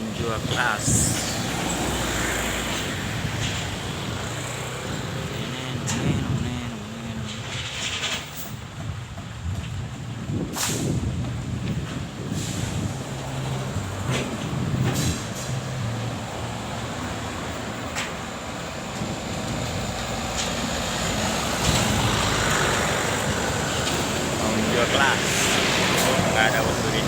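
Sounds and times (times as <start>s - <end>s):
buses and traffic passing: 0.0s - 27.0s
heavy vehicle engines running: 0.0s - 27.0s.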